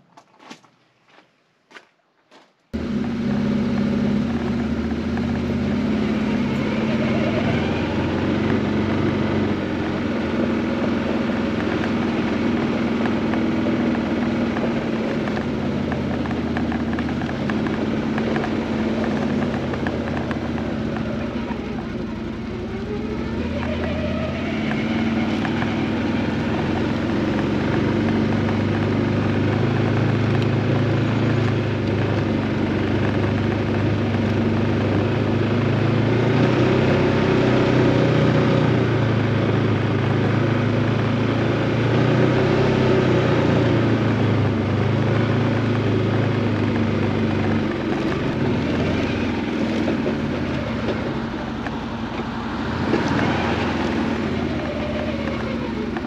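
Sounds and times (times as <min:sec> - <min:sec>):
engine humming: 0:02.6 - 0:56.0.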